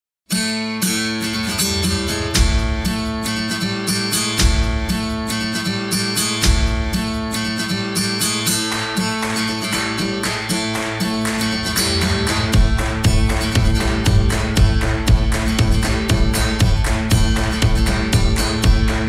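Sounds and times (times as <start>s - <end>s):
guitar-led music with beat: 0.3s - 19.0s.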